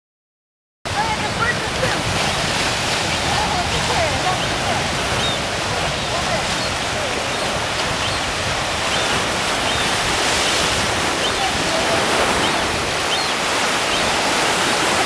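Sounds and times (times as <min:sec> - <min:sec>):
ocean waves breaking on rocks: 0:00.9 - 0:15.0.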